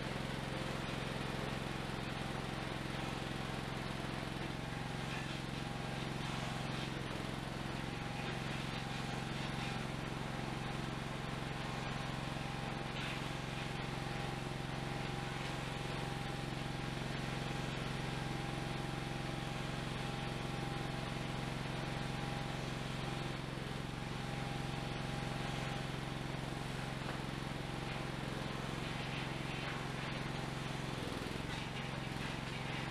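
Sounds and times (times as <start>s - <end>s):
small engine idling: 0.0s - 32.9s.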